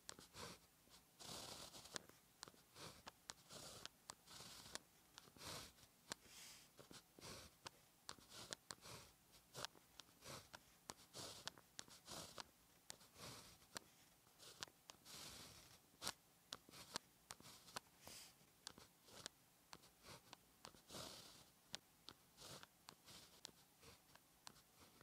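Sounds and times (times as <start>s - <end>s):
pen scratching on paper: 0.1s - 25.0s.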